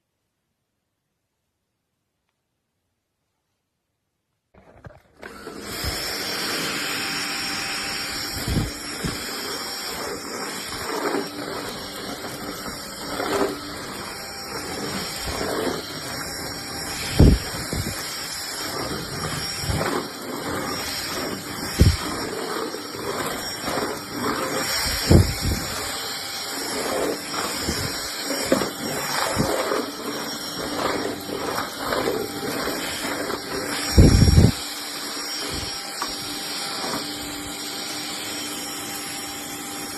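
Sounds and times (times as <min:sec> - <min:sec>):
vacuum cleaner whining: 0:04.6 - 0:39.9.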